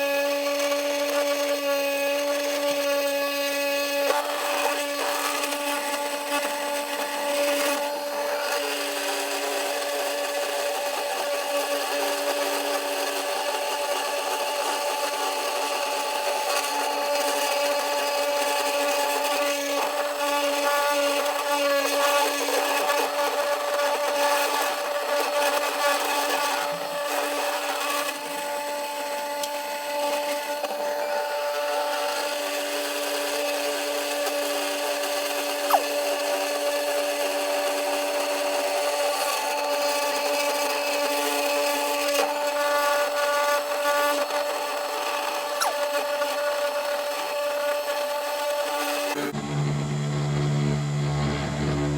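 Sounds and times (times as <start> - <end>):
spindle motor whine: 0.0 - 51.9
end mill grinding chatter: 0.3 - 51.9.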